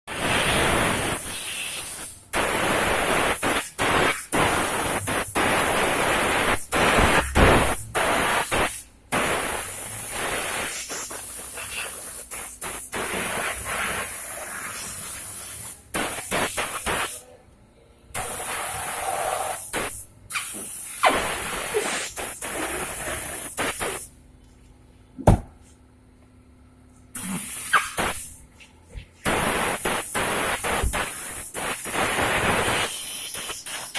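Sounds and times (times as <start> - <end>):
pressure washer water spray: 0.1 - 17.2, 18.2 - 24.1, 27.2 - 28.4, 29.2 - 33.9.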